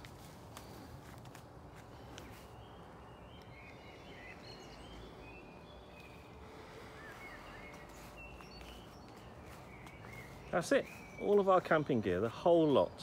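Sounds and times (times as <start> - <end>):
birds chirping and singing: 1.6 - 13.0.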